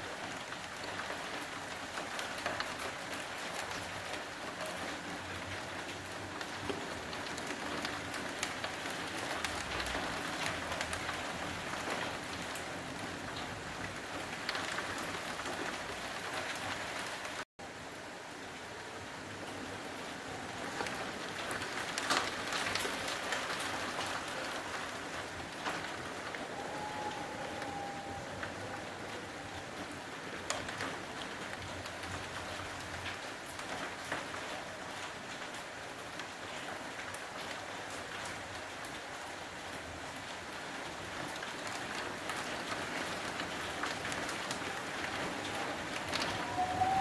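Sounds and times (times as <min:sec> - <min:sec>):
heavy rain falling: 0:00.0 - 0:47.0
sharp raindrops: 0:00.0 - 0:47.0.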